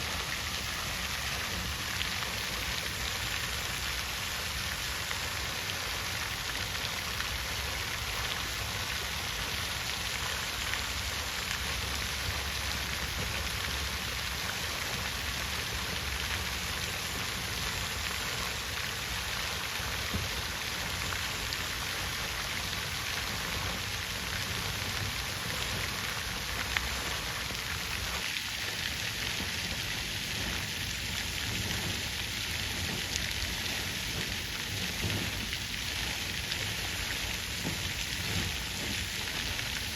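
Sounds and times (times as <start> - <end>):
water fountain splashing: 0.0 - 39.9.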